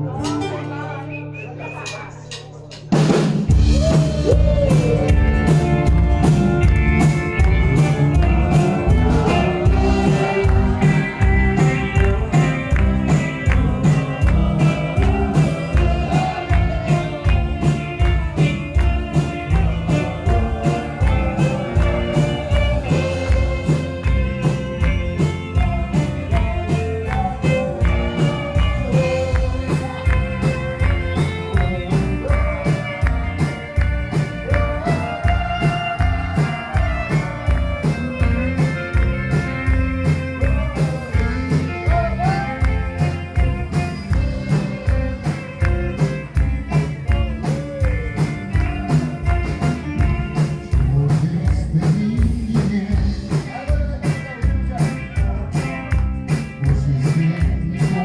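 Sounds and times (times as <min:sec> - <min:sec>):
rock band music: 0:02.4 - 0:58.0
sliding lead guitar melody: 0:03.5 - 0:51.4.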